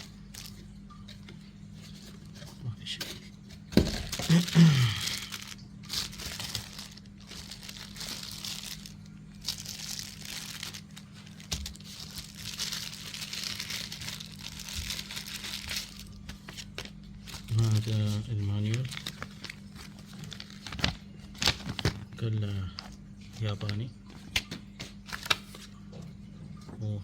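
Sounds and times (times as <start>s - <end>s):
packaging crinkling and rustling: 0.0s - 2.6s, 3.2s - 25.9s.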